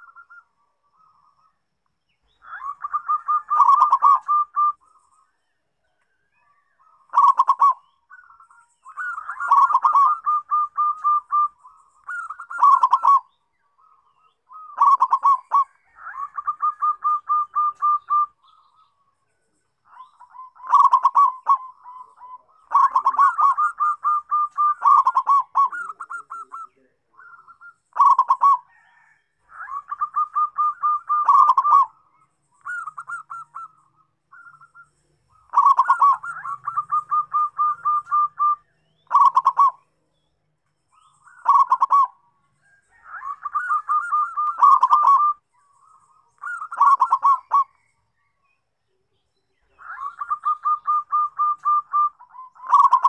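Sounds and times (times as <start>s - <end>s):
dove cooing: 0.0s - 1.3s, 2.2s - 5.2s, 6.4s - 19.0s, 19.9s - 40.0s, 41.0s - 47.9s, 49.6s - 53.0s.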